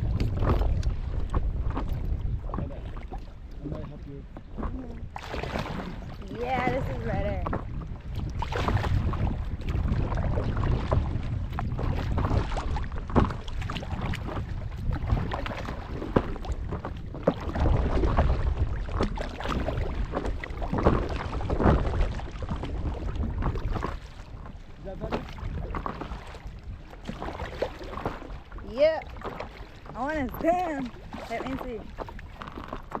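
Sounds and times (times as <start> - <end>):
paddle splashing in water: 0.0 - 33.0
wind rumbling on microphone: 0.0 - 33.0.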